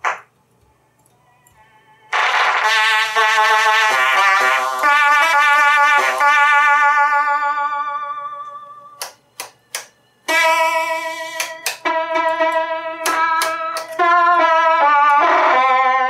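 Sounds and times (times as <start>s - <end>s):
electronic organ sustained notes: 1.0s - 16.0s.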